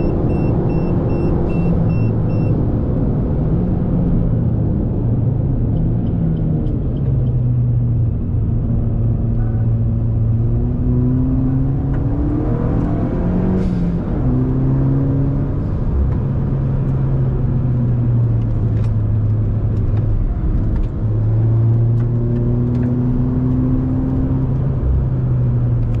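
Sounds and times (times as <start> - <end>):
car engine under acceleration: 0.0 - 26.0.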